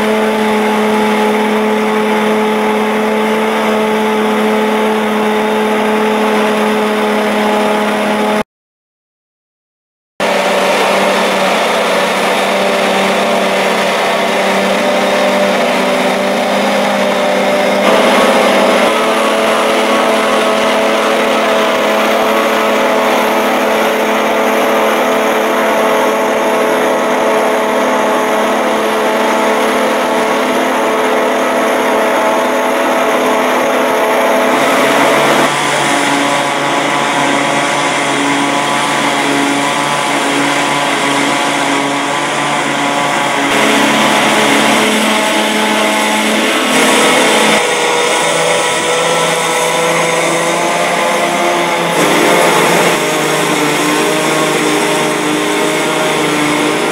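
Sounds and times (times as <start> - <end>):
truck engine and machine hum: 0.0 - 8.4, 10.2 - 56.9
broad rushing noise: 10.2 - 56.9.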